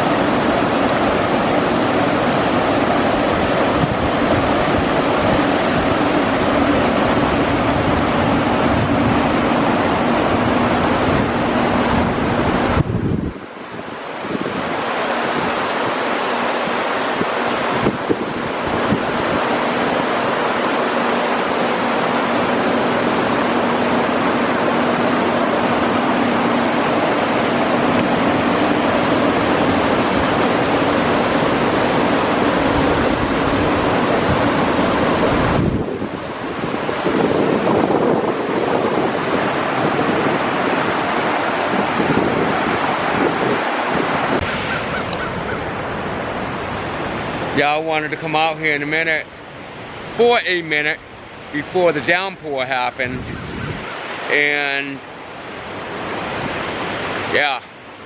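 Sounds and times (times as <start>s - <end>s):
strong wind buffeting microphone: 0.0s - 47.6s, 53.0s - 54.2s
water rushing: 0.0s - 58.0s.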